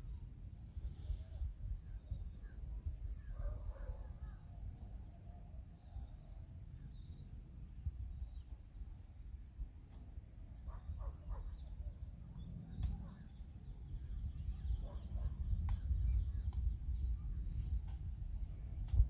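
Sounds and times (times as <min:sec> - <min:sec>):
faint bird chirps: 0:00.0 - 0:10.0, 0:10.6 - 0:19.0
wind rumbling on microphone: 0:00.0 - 0:19.0.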